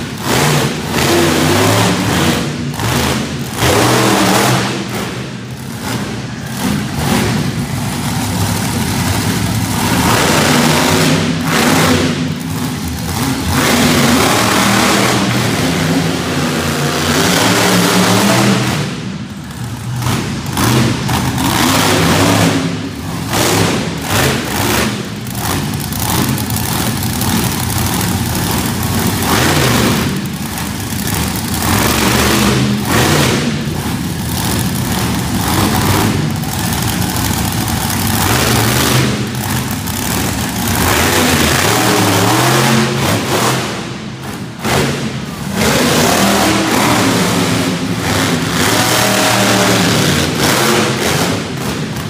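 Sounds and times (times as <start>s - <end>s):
truck engine revving hard: 0.0s - 52.0s.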